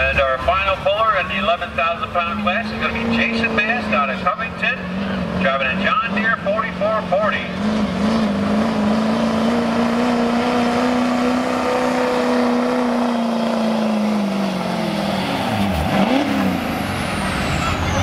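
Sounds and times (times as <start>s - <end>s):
diesel truck engine revving: 0.0s - 18.0s.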